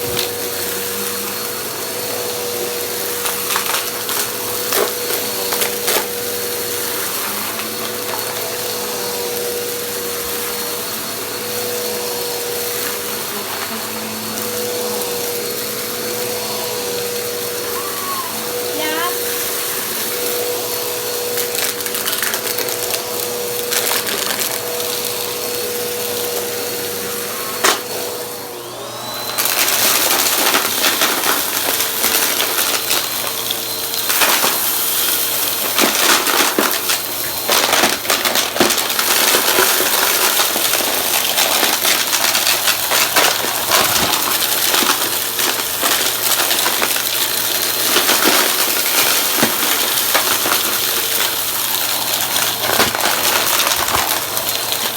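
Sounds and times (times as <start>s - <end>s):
debris crackling in vacuum: 0.0s - 54.9s
vacuum cleaner humming: 0.0s - 54.9s.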